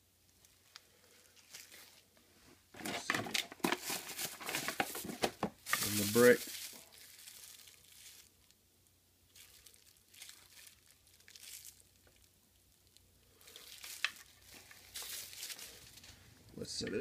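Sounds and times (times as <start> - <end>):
plastic bag crinkling: 0.4 - 2.1, 2.7 - 8.6, 9.3 - 16.2.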